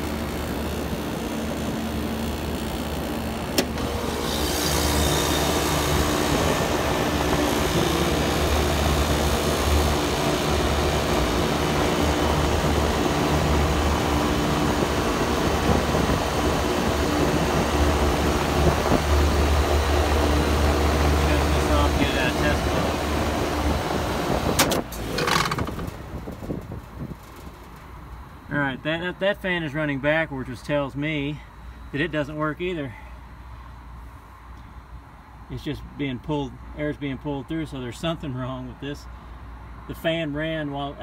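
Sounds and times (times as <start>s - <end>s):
rooftop unit motor hum: 0.0s - 38.8s
fan air rushing: 0.0s - 41.0s.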